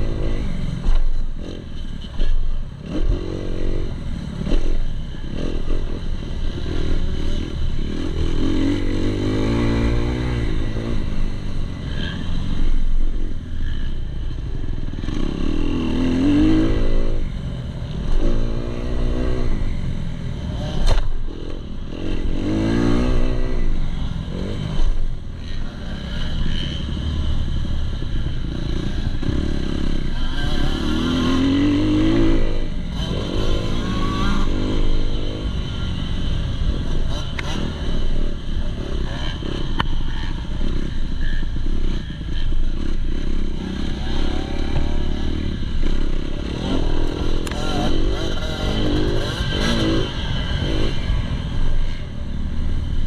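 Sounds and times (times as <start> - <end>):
motocross bike engine revving: 0.0 - 53.0.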